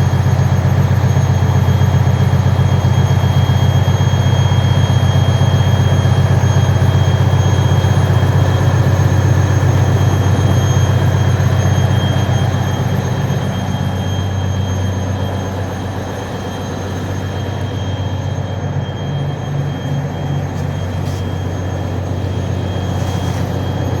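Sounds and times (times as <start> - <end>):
high-pitched whines: 0.0 - 24.0
ship engines humming: 0.0 - 24.0.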